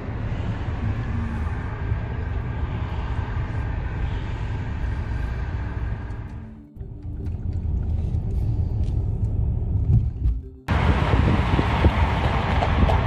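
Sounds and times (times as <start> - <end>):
vehicle road and engine rumble: 0.0 - 13.0.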